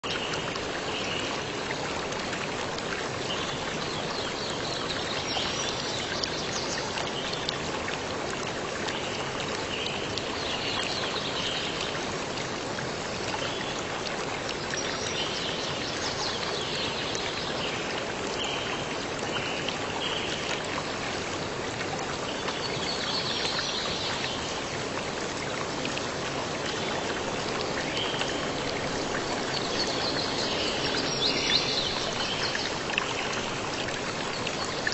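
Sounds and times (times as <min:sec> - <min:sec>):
stream water running: 0:00.0 - 0:34.9.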